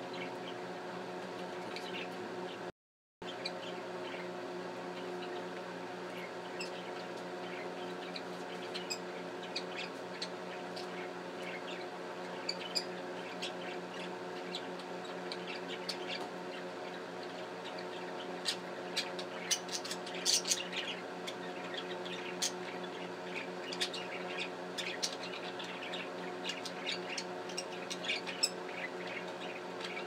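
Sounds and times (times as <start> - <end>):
background hum: 0.0 - 30.0
budgerigars chirping: 1.7 - 2.6, 5.0 - 30.0.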